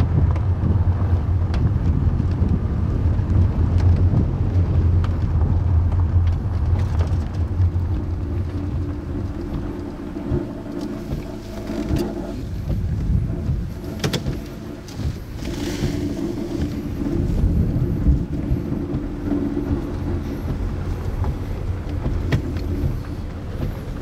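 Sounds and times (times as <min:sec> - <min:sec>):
car engine hum: 0:00.0 - 0:24.0
road rumble: 0:00.0 - 0:24.0.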